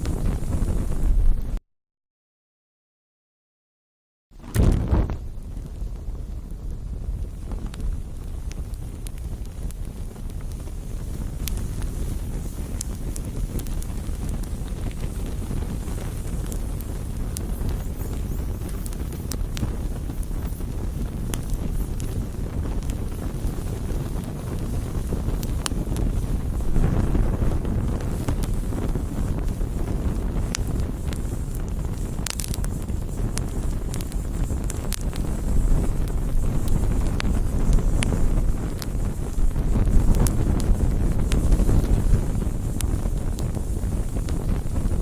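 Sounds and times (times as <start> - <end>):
campfire low rumble: 0.0 - 1.6, 4.4 - 45.0
fire crackling and popping: 0.0 - 1.6, 4.4 - 45.0.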